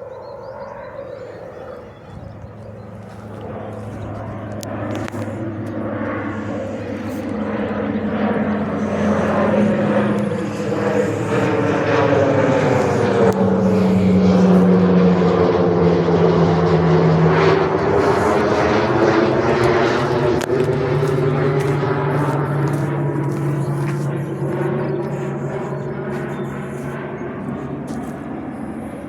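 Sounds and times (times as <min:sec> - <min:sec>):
turboprop plane flying past: 0:00.0 - 0:29.0.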